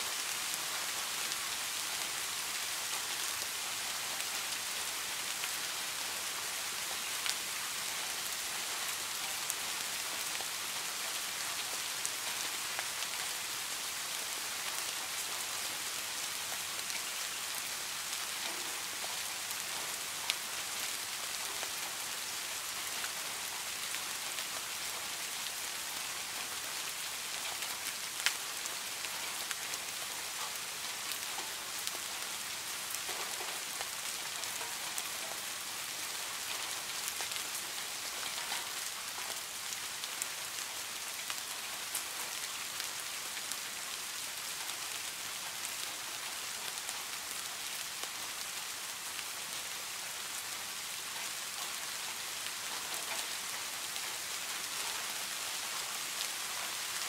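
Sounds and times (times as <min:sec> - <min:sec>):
rain falling on a pond: 0:00.0 - 0:57.0.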